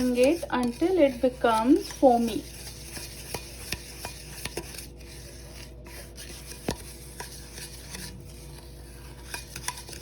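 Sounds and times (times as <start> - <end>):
utensil scraping a bowl: 0.0 - 10.0.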